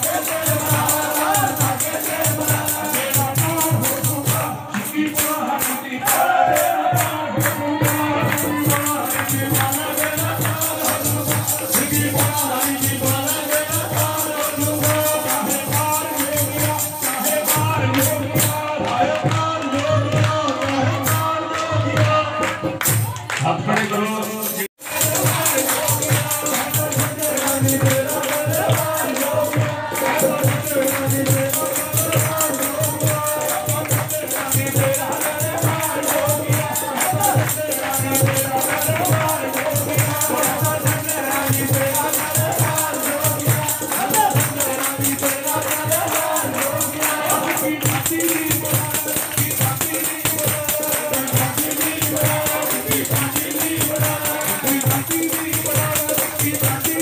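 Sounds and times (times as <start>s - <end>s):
steady drum beat: 0.0s - 23.7s, 24.4s - 57.0s
jingling percussion: 0.0s - 57.0s
voices singing: 0.0s - 57.0s.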